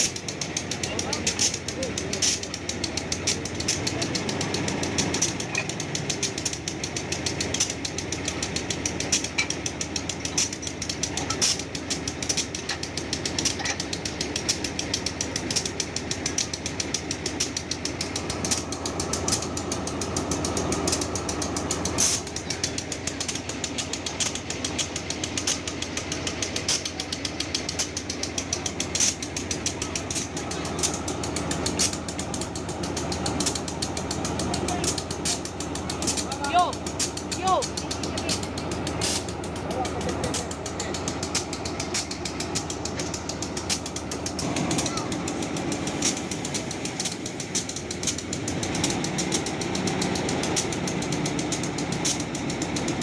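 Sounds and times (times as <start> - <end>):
train rattling and clacking on rails: 0.0 - 53.0.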